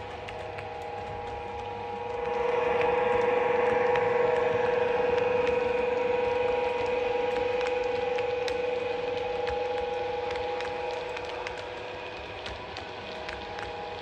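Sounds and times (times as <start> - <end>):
model locomotive hum: 0.0 - 14.0
wheels ticking on track: 0.0 - 14.0.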